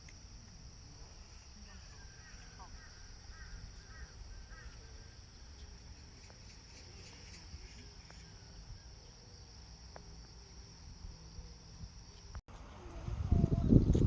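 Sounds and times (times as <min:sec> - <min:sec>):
insects shrilling: 0:00.0 - 0:12.4.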